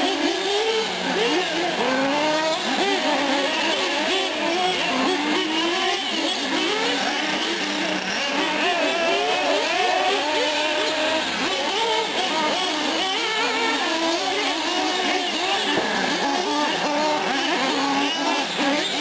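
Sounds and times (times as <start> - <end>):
rc car engines whining and revving: 0.0 - 19.0.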